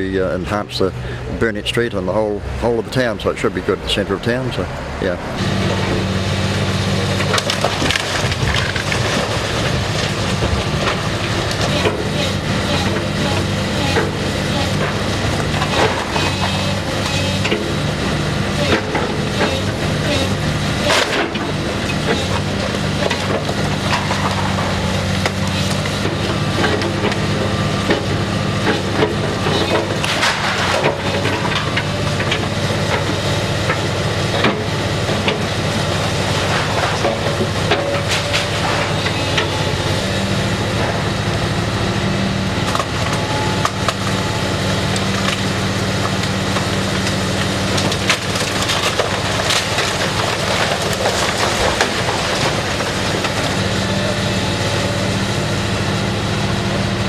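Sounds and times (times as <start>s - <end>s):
heavy machine engine running: 0.0s - 57.0s
concrete crunching and crashing: 4.0s - 57.0s.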